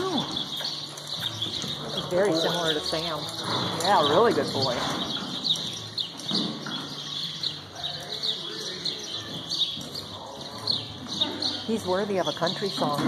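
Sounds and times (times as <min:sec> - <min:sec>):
hooves thudding on sand: 0:00.0 - 0:13.0
small birds chirping: 0:00.0 - 0:13.0.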